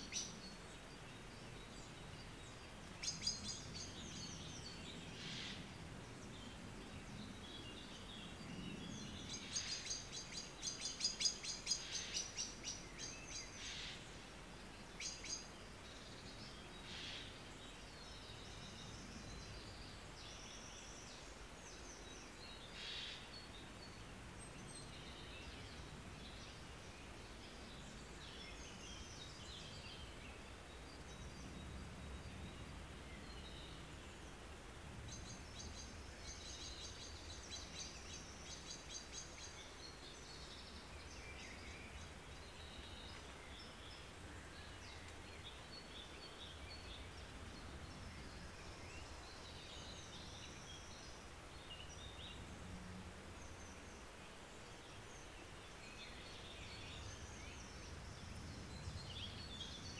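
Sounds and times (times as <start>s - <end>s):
faint songbird chirps: 0.0s - 59.9s.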